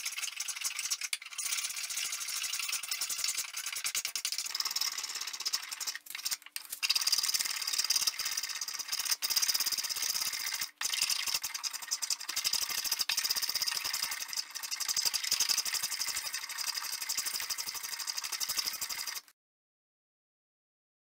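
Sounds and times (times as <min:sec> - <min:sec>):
hand tool rasping wood: 0:00.0 - 0:19.2.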